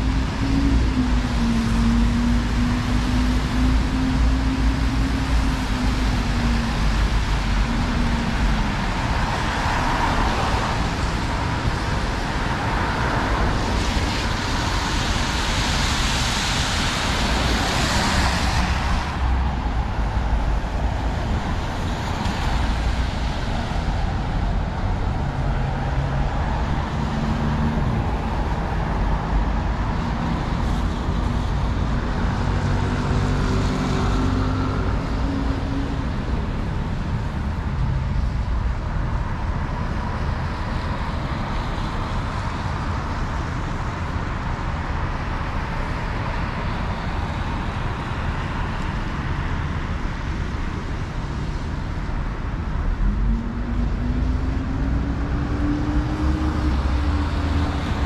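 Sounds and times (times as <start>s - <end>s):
low hum of engines: 0.0s - 58.0s
tyres hissing on wet road: 0.0s - 58.0s.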